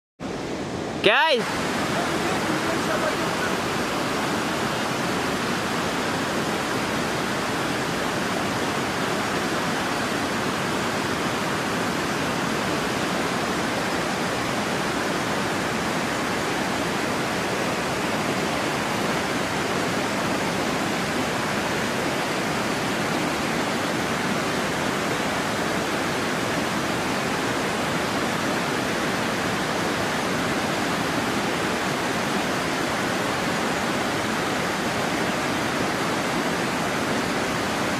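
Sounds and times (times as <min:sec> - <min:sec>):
rushing mountain stream: 0:00.2 - 0:37.9.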